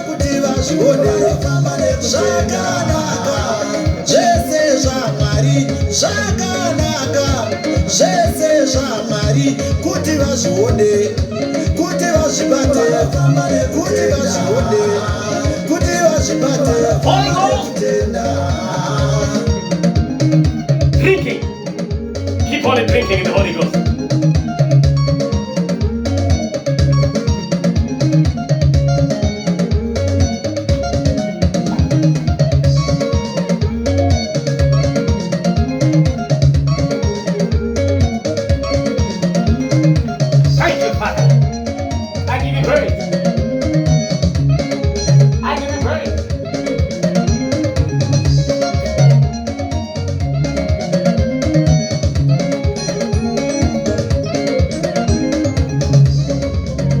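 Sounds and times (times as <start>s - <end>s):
bass: 0.0s - 57.0s
drums at a steady beat: 0.0s - 57.0s
instrumental gospel band music: 0.0s - 57.0s
plucked guitar: 0.0s - 57.0s.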